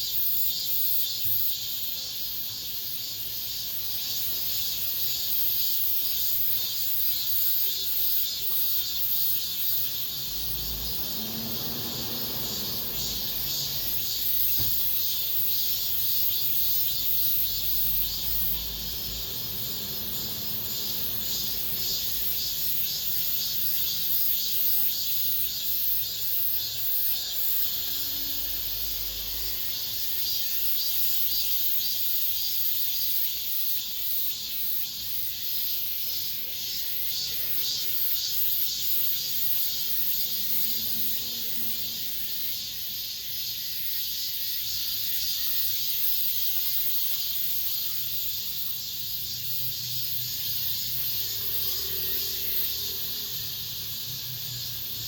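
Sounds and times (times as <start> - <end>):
cicadas singing: 0.0 - 55.0.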